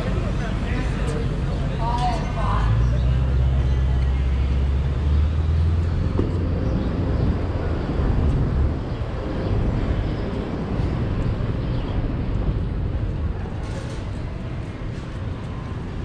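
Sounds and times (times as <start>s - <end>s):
passing vehicle engine rumble: 0.0s - 16.0s
steady traffic noise: 0.0s - 16.0s.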